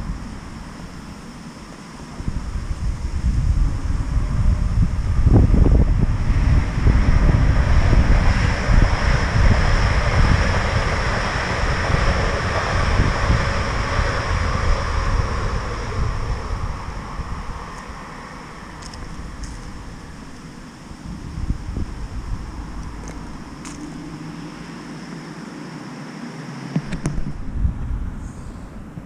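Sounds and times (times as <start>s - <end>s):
wind buffeting microphone: 0.0s - 25.4s, 26.8s - 29.0s
passing road traffic rumbling: 0.0s - 29.0s.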